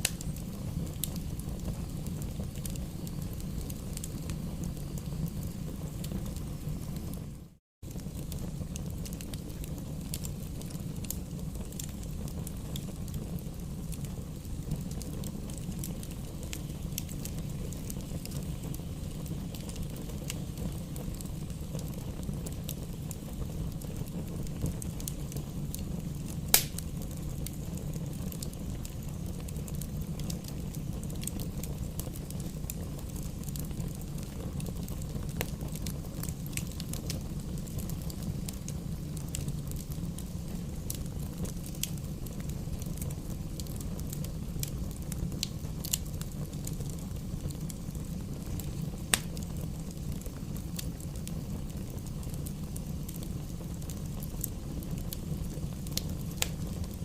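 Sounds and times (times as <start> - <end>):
burning wood crackling and popping: 0.0 - 57.0
campfire flames rumbling: 0.0 - 57.0.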